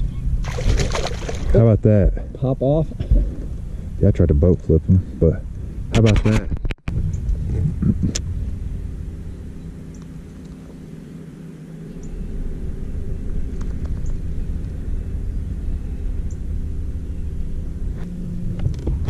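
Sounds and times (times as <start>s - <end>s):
boat motor humming: 0.0s - 6.0s, 6.8s - 19.0s.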